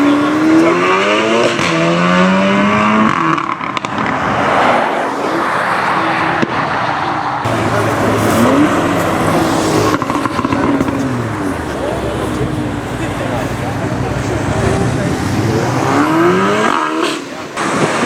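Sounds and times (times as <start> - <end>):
car engine accelerating: 0.0 - 18.0
car rushing past: 0.0 - 18.0
exhaust crackles: 0.0 - 18.0.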